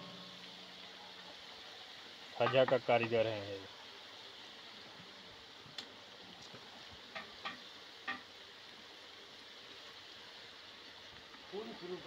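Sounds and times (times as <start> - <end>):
pastries sizzling in hot oil: 0.0 - 12.0.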